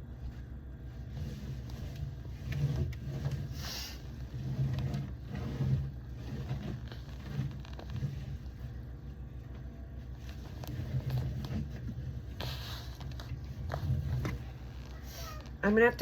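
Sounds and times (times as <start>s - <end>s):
rubbing and handling noises: 0.0s - 16.0s.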